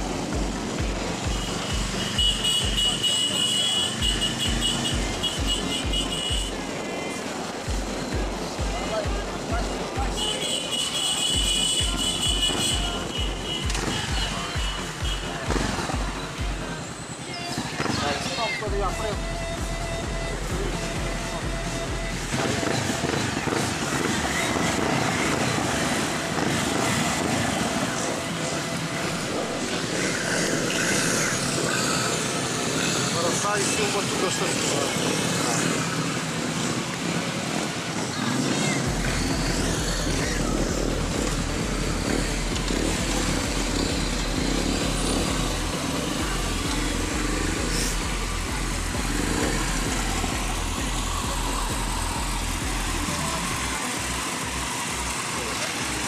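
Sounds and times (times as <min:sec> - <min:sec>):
motorcycle engine running: 0:00.0 - 0:16.8, 0:17.8 - 0:56.0.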